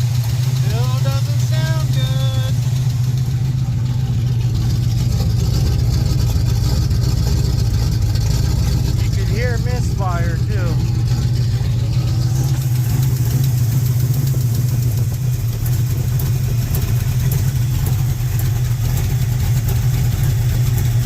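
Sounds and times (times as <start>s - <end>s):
engine idling roughly with misfire: 0.0s - 21.0s.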